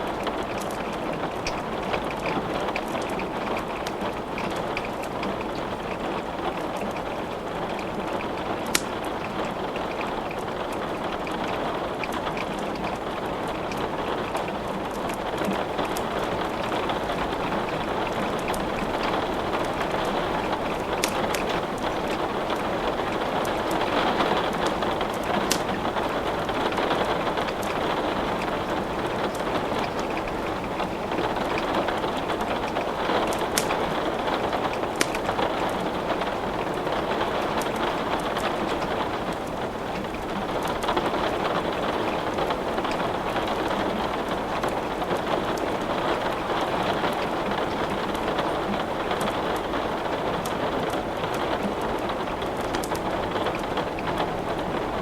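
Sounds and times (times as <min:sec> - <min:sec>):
steady rain: 0:00.0 - 0:55.0
wood crackling in a fireplace: 0:00.0 - 0:55.0.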